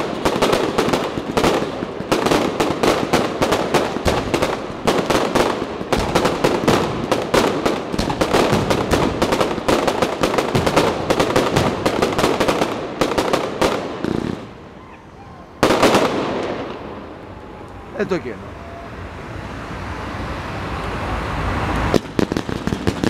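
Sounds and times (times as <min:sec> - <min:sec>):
fireworks crackling: 0:00.0 - 0:14.8, 0:15.6 - 0:18.4, 0:20.7 - 0:23.0
fireworks bangs: 0:00.0 - 0:18.4, 0:21.7 - 0:23.0.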